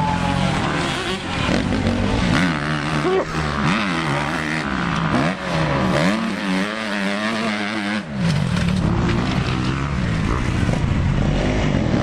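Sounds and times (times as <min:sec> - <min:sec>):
dirt bike engine revving: 0:00.0 - 0:12.0
motorbike passing close: 0:00.0 - 0:12.0.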